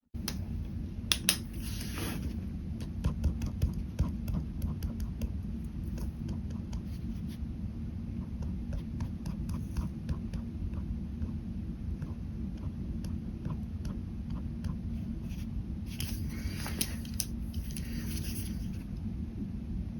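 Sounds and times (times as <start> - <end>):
steady low hum: 0.1 - 19.9.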